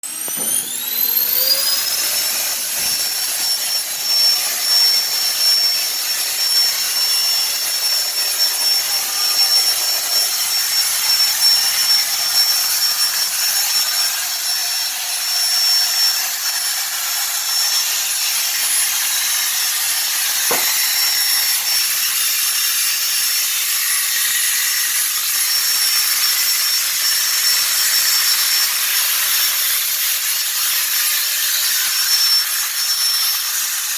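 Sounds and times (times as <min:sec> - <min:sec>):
blower whining: 0:00.0 - 0:33.9.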